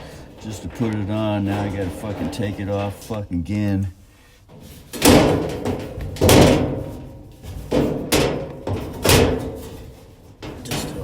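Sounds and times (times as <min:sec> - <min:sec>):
metallic clanks and knocks: 0:00.0 - 0:03.2, 0:04.5 - 0:11.0.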